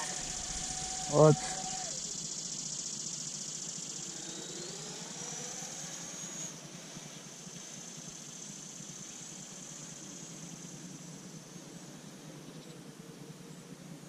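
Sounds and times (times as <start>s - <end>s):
electric ducted fans whining: 0.0s - 14.0s
steady high hiss: 0.0s - 14.0s.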